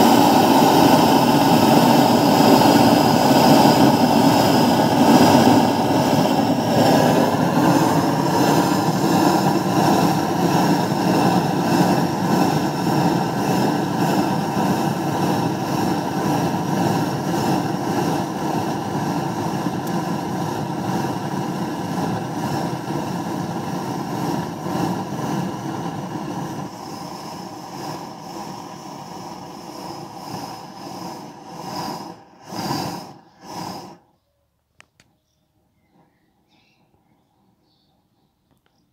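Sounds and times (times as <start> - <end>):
flamegun burner rushing: 0.0 - 34.1.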